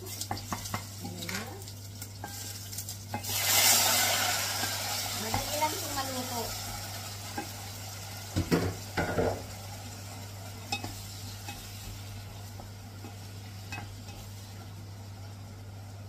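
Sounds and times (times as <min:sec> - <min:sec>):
food sizzling: 0:00.0 - 0:16.0.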